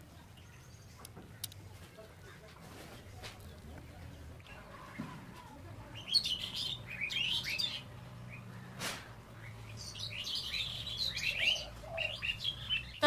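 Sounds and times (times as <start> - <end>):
small birds twittering: 0.0 - 13.0.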